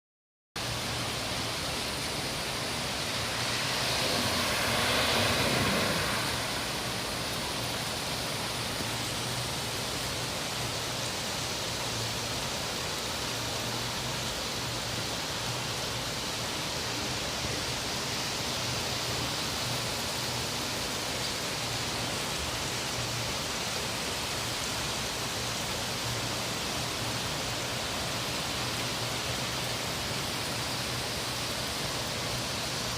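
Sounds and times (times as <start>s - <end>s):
rushing flood water: 0.6s - 32.9s.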